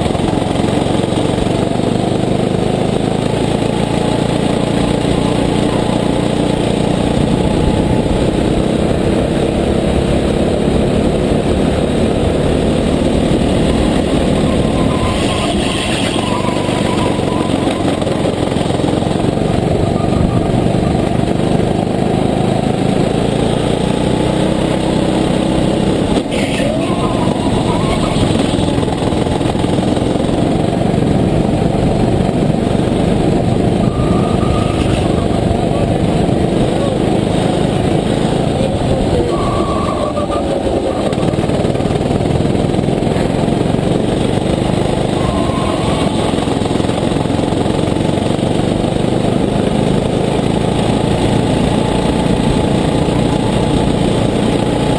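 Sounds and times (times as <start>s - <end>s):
kart engine revving: 0.0s - 54.9s.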